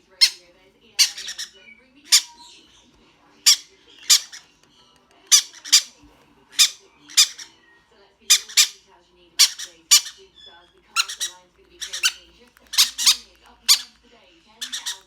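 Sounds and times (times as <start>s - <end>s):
parrot chicks begging squawks: 0.0s - 15.0s.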